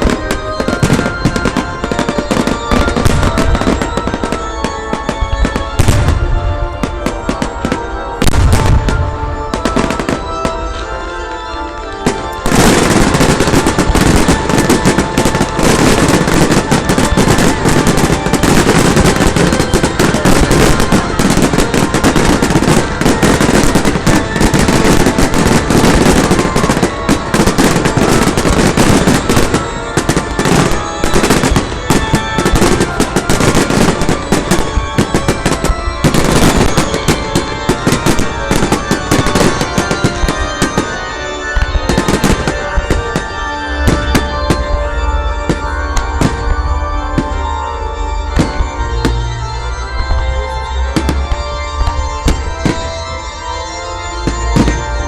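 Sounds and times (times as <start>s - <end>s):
fireworks crackling bangs: 0.0s - 55.0s
music playing: 0.0s - 55.0s.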